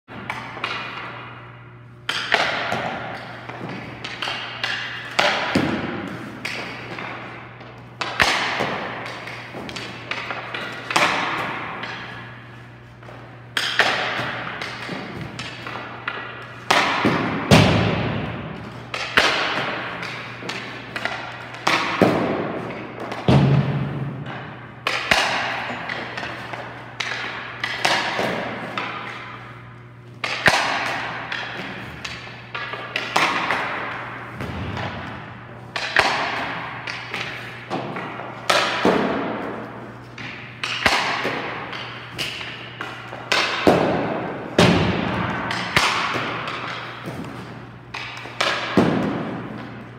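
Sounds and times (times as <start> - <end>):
puck hitting pads and boards: 0.1 - 49.9
hockey stick cracking on puck: 0.2 - 1.4, 2.0 - 49.9.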